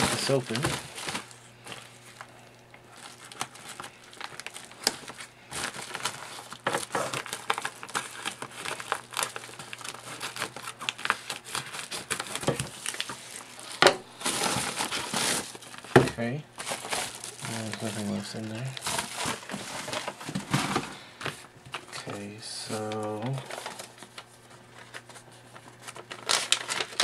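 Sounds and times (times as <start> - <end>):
bubble mailer crinkling: 0.0 - 27.0.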